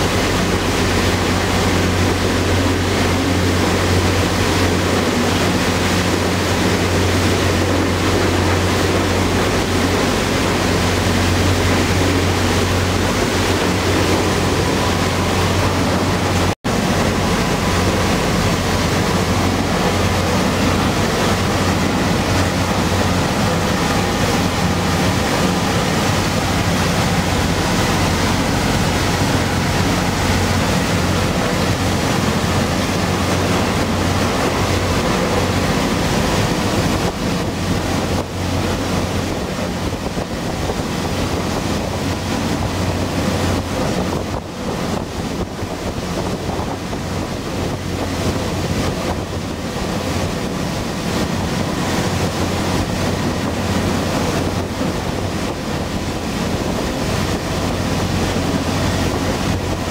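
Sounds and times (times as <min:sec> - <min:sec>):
ferry engine drone: 0:00.0 - 0:59.9
wind on microphone: 0:00.0 - 0:59.9.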